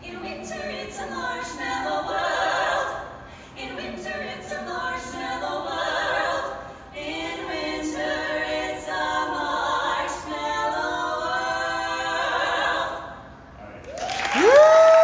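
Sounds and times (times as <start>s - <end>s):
a cappella group singing: 0.0s - 13.6s.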